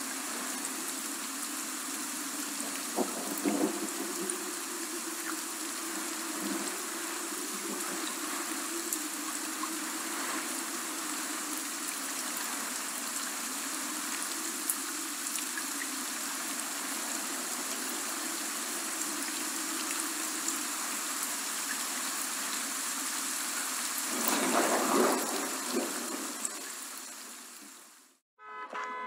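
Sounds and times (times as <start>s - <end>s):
steady rain falling: 0.0s - 28.2s.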